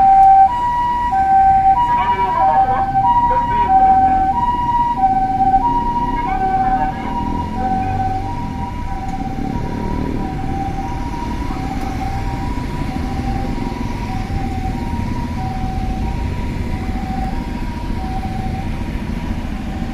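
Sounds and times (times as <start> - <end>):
two-tone ambulance siren: 0.0 - 19.9
vehicle and road rumble: 0.0 - 19.9.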